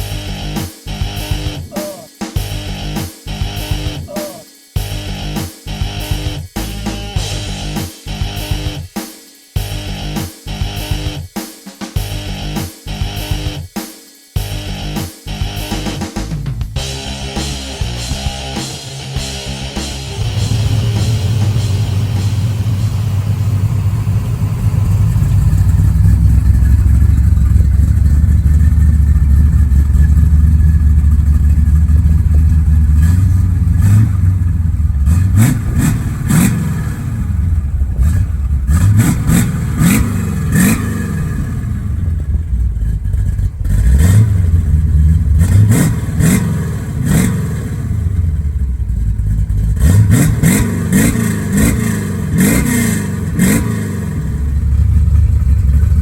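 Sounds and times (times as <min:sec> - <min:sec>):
car engine idling and revving: 0:00.0 - 0:01.8, 0:02.4 - 0:04.1, 0:04.8 - 0:08.9, 0:09.6 - 0:11.3, 0:12.0 - 0:13.7, 0:14.4 - 0:56.0.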